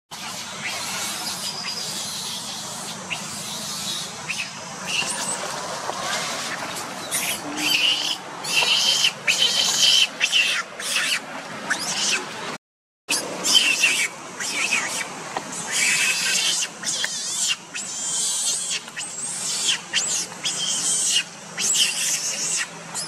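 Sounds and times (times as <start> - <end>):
young monkey screaming: 0.3 - 5.4, 7.0 - 12.2, 13.1 - 23.0.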